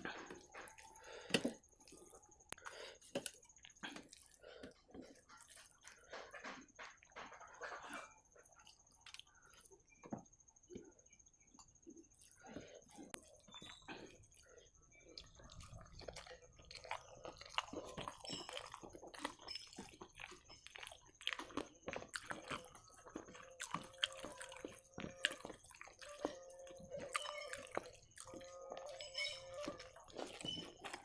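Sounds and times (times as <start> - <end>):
chewing and wet mouth sounds: 0.0 - 31.0.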